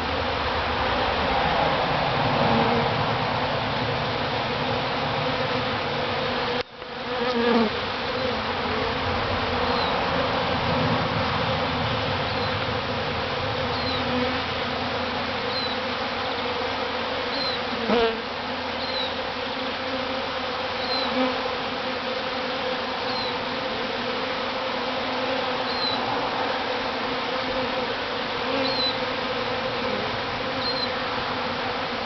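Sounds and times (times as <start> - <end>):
honeybee swarm buzzing: 0.0 - 32.0
bee zipping past: 1.1 - 32.0.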